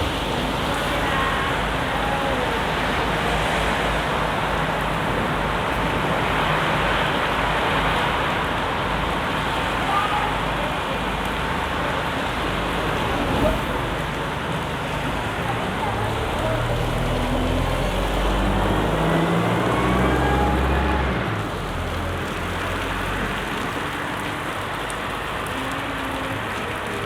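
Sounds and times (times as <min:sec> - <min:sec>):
bus engine running: 0:00.0 - 0:27.0
road traffic: 0:00.0 - 0:27.0
steady rain: 0:00.0 - 0:27.0.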